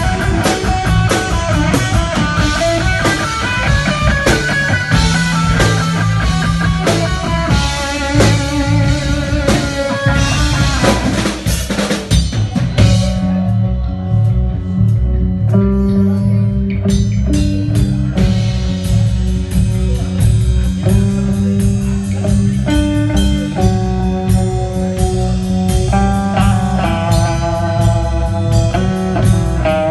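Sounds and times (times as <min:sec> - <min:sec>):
blues rock guitar: 0:00.0 - 0:29.9
drum kit beat: 0:00.0 - 0:29.9.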